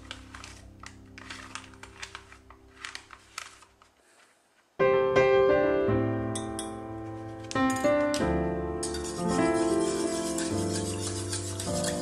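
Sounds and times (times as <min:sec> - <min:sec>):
faint background music: 0:00.0 - 0:03.9, 0:04.8 - 0:12.0.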